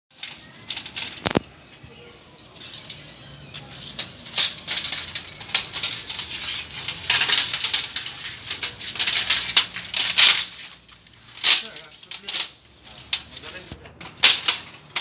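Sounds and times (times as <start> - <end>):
metal cage clinking and rattling: 0.2 - 15.0.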